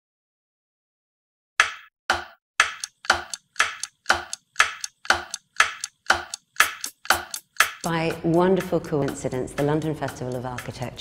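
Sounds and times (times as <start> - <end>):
clock-like ticks: 1.6 - 11.0.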